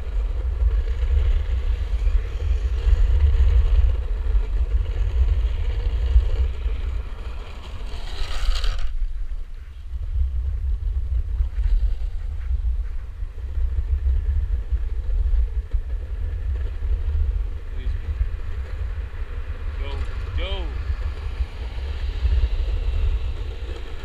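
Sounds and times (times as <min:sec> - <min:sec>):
wheels rolling on asphalt: 0:00.0 - 0:24.0
wind buffeting microphone: 0:00.0 - 0:24.0.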